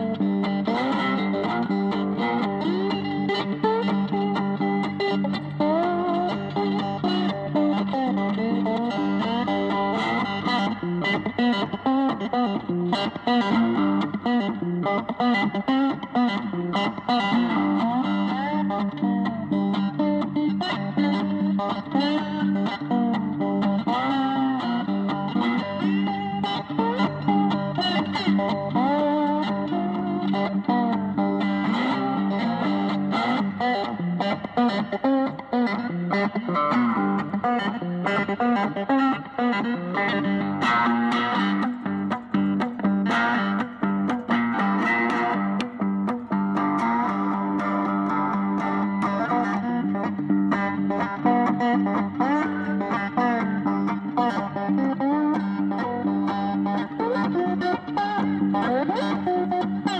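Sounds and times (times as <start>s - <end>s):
distorted electric guitar music: 0.0s - 59.9s.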